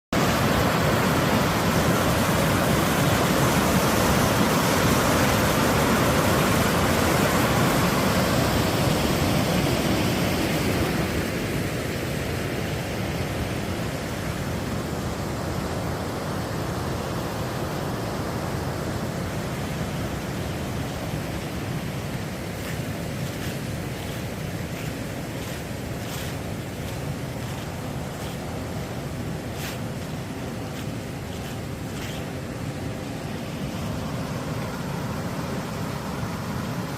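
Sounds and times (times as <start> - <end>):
rushing water roar: 0.1 - 36.9.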